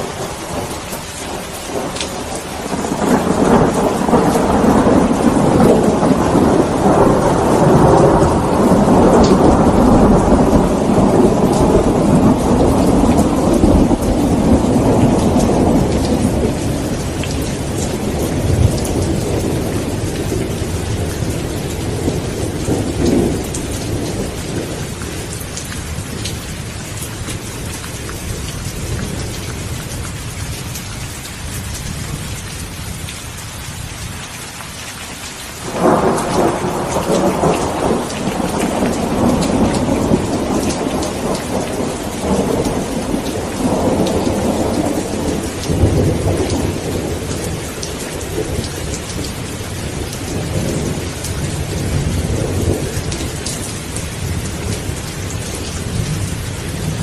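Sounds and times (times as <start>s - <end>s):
rolling thunder: 0.0s - 30.8s, 35.6s - 57.0s
steady rain hiss: 0.0s - 57.0s.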